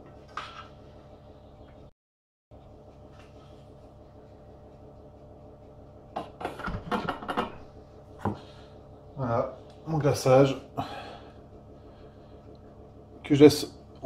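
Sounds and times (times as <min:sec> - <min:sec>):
low room hum: 0:00.0 - 0:01.9, 0:02.5 - 0:14.0.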